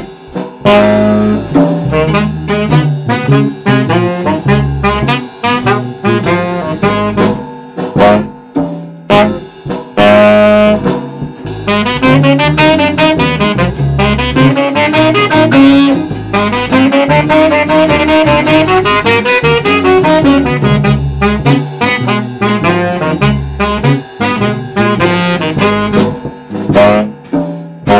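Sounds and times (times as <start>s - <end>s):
saxophone playing: 0.0s - 7.4s, 8.0s - 8.3s, 9.1s - 27.9s
electric bass line: 0.0s - 27.9s.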